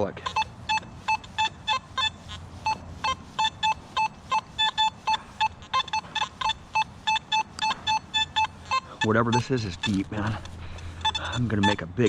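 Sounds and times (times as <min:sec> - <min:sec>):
metal detector beeping: 0:00.0 - 0:12.0.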